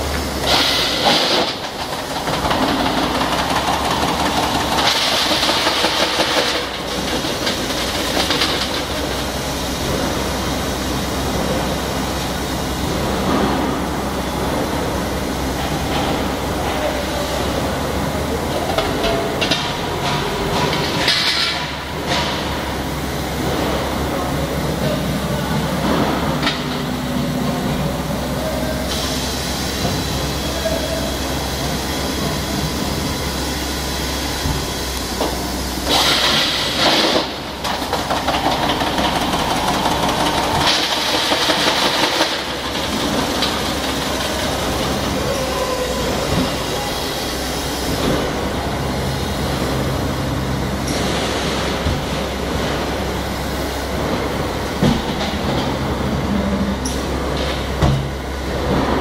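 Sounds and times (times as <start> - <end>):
machine hum and rumble: 0.0 - 59.0.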